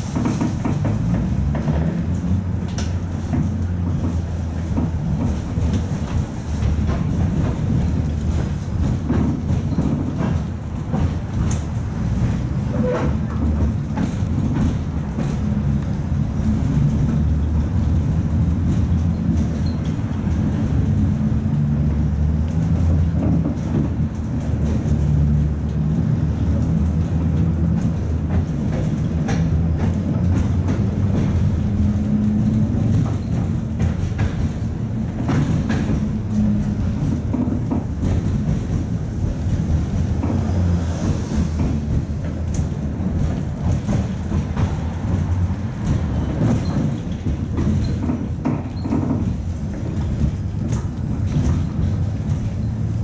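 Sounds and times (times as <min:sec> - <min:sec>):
tram rumbling on rails: 0:00.0 - 0:53.0
wheels clicking on track: 0:00.0 - 0:53.0.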